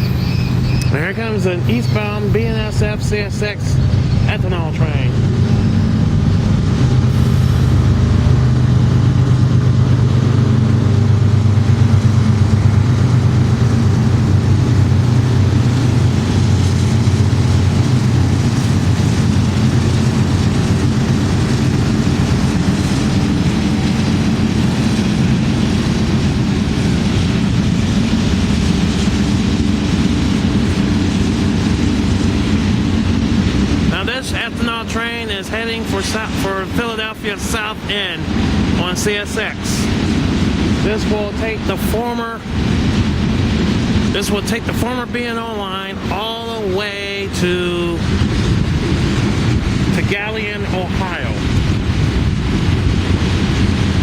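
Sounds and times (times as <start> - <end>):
diesel locomotive drone: 0.0 - 54.0
train wheels rumbling on rails: 0.0 - 54.0.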